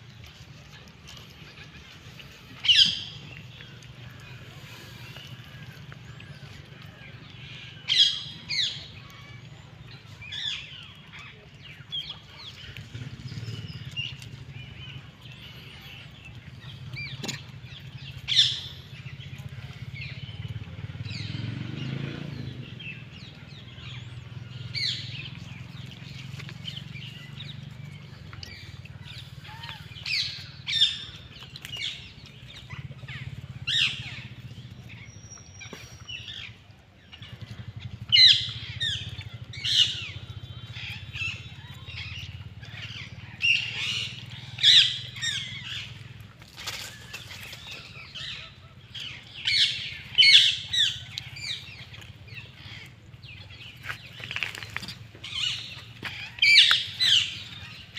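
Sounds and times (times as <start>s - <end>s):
small birds chirping: 0.0s - 57.9s
steady low rumble: 0.0s - 57.9s.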